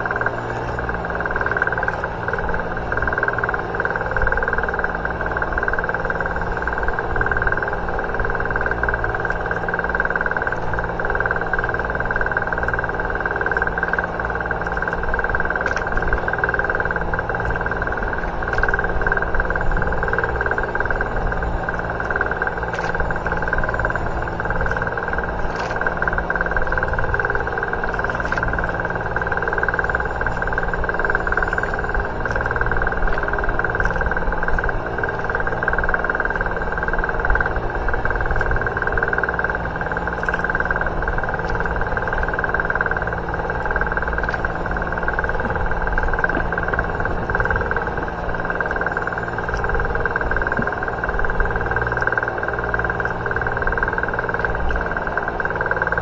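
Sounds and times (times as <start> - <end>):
engine whining and humming: 0.0 - 56.0.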